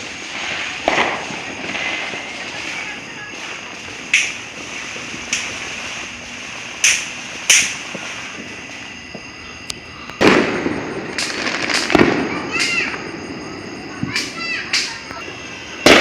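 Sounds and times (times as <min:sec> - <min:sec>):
fireworks bangs and booms: 0:00.0 - 0:16.0.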